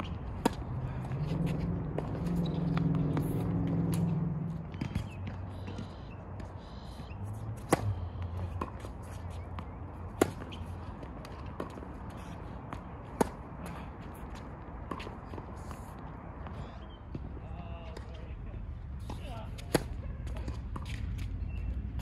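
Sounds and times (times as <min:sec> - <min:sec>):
tennis balls struck by rackets: 0:00.0 - 0:15.6, 0:19.0 - 0:21.5.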